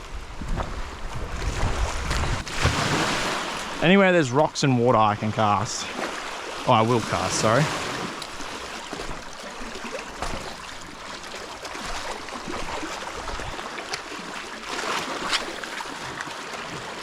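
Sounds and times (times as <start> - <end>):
sea water lapping against rocks: 0.0 - 17.0.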